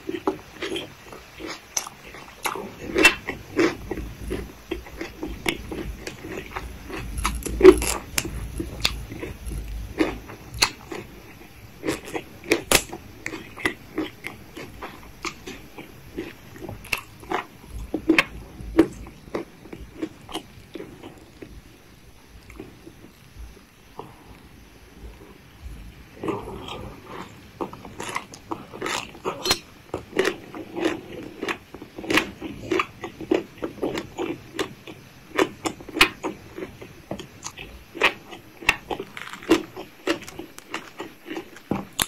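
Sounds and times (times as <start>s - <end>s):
chewing food with crunches: 0.0s - 21.7s, 25.0s - 42.0s.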